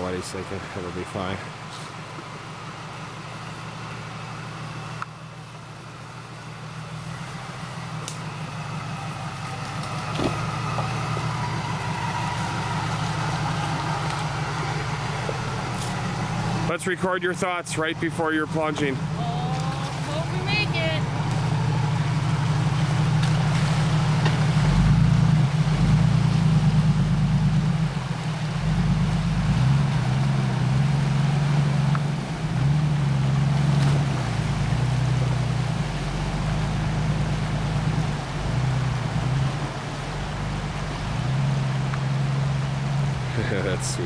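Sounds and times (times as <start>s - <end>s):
car engine under load: 0.0s - 44.0s
water rushing and splashing: 0.0s - 44.0s.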